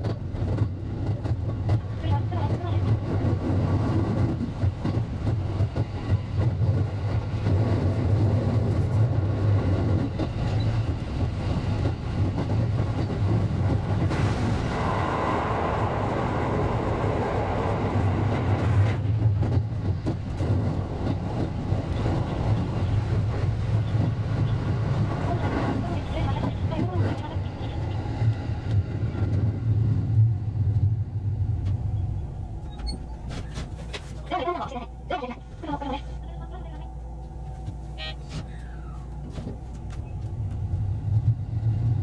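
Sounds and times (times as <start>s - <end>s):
electric train rumbling: 0.0s - 42.0s
rail noise: 0.0s - 42.0s.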